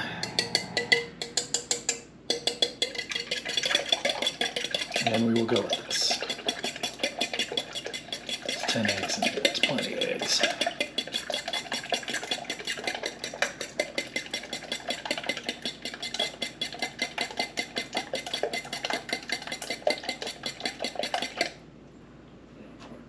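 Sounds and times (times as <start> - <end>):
utensil clinking in metal bowl: 0.2 - 21.6.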